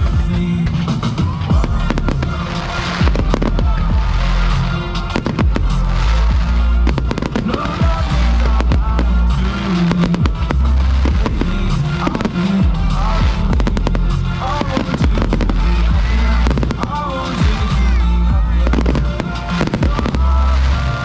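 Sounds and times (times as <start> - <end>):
fireworks bangs and crackles: 0.0 - 21.0
loud music with bass line: 0.0 - 21.0.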